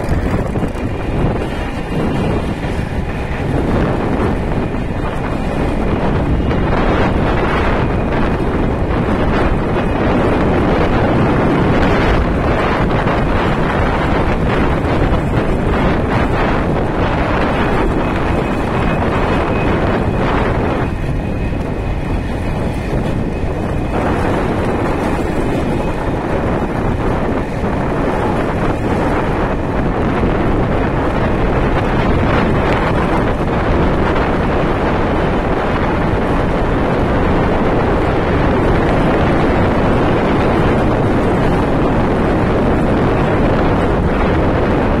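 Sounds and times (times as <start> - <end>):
freight train rumbling: 0.0 - 45.0
wind on microphone: 0.0 - 45.0.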